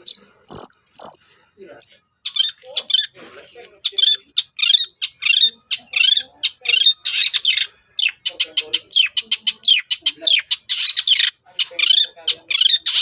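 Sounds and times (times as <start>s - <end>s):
bird singing harsh scratchy notes: 0.0s - 13.0s.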